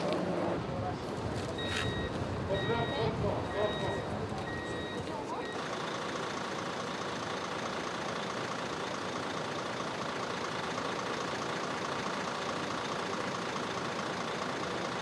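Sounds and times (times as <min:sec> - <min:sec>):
large vehicle engine idling: 0:00.0 - 0:15.0.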